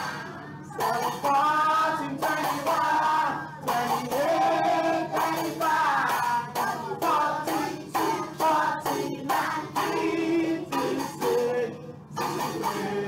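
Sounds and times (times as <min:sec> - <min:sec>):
music backing track: 0:00.0 - 0:13.0
person singing: 0:00.0 - 0:13.0.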